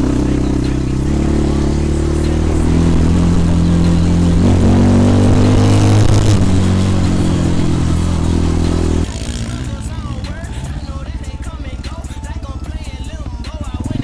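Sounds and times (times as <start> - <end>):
motorcycle engine running loud: 0.0 - 14.0.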